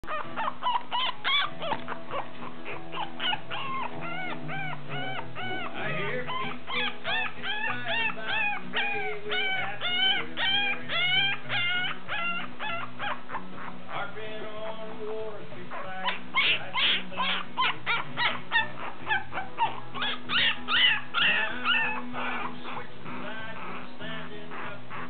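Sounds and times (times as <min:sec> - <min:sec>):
puppies whimpering and yipping: 0:00.0 - 0:14.2, 0:14.8 - 0:25.0
music: 0:00.0 - 0:25.0.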